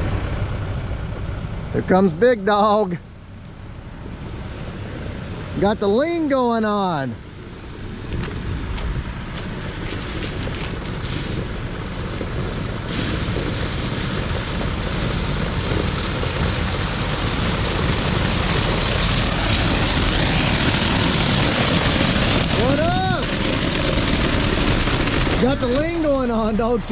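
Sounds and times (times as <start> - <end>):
diesel engine running: 0.0 - 26.9
gravel sliding: 5.3 - 26.9.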